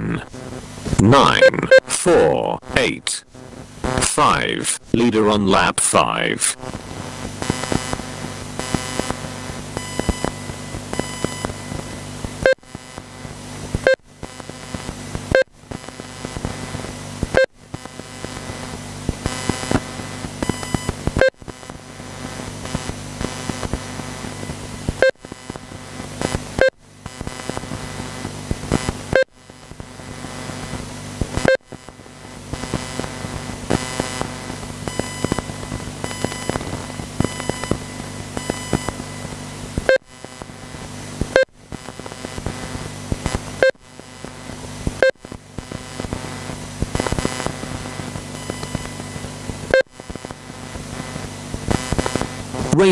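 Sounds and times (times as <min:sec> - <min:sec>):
steady electronic hum: 0:00.0 - 0:52.9.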